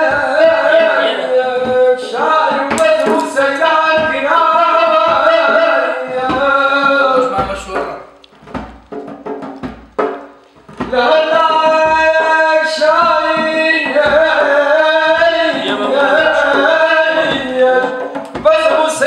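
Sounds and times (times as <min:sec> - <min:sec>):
hand drum strikes: 0:00.0 - 0:19.0.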